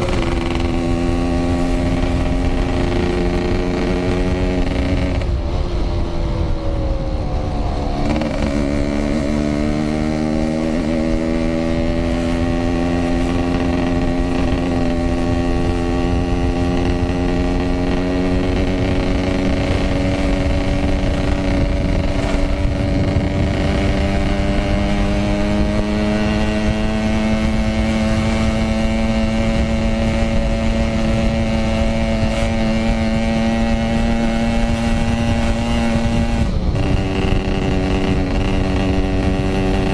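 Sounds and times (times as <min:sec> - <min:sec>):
two-stroke motorcycle engine: 0:00.0 - 0:05.5, 0:07.8 - 0:39.9
low wind rumble: 0:00.0 - 0:39.9.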